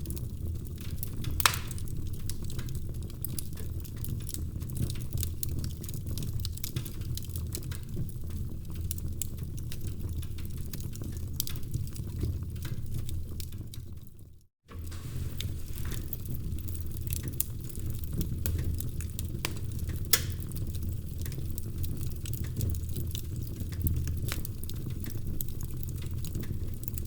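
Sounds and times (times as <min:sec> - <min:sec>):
fire popping and snapping: 0:00.0 - 0:27.0
low rumble of flames: 0:00.0 - 0:27.0.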